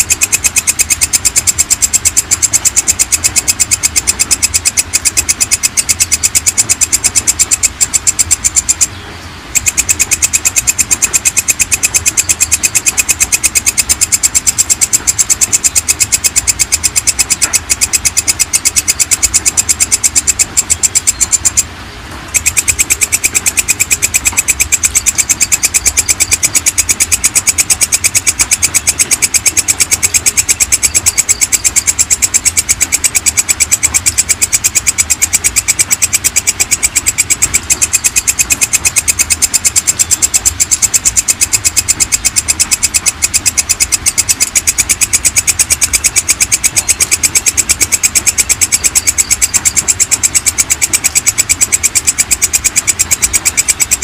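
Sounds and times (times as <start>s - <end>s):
katydid chirping pulses: 0.0s - 54.0s.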